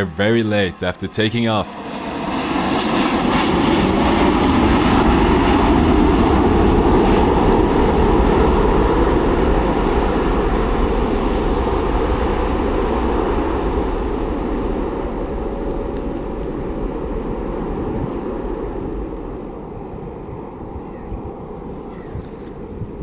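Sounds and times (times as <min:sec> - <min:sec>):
jet engines at takeoff power: 0:01.8 - 0:20.6.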